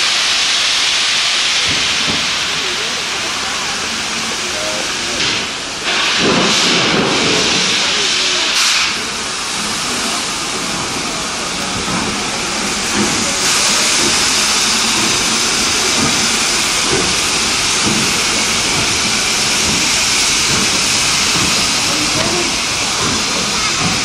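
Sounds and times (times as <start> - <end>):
steam locomotive hissing: 0.0 - 24.0.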